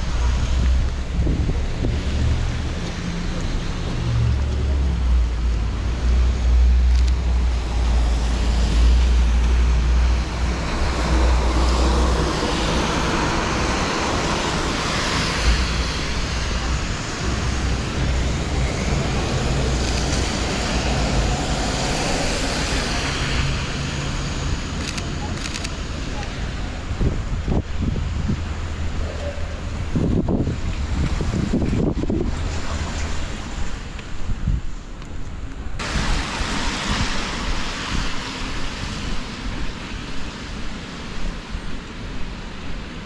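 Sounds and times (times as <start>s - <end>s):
tyres hissing on wet road: 0.0s - 43.0s.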